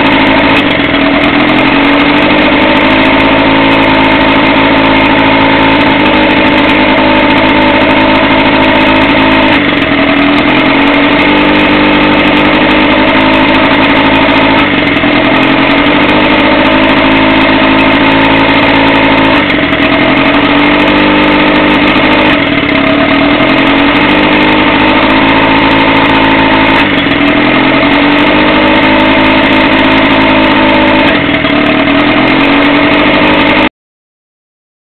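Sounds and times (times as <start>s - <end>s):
boat motor running: 0.0s - 33.7s.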